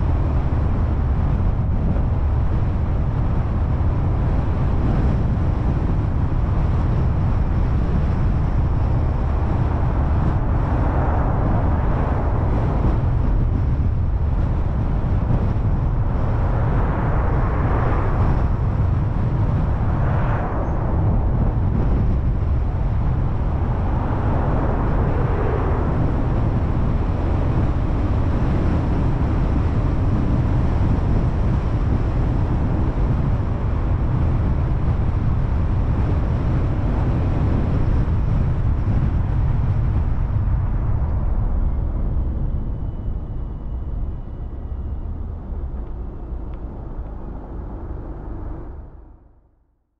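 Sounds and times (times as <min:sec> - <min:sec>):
car road and wind noise: 0:00.0 - 0:49.7.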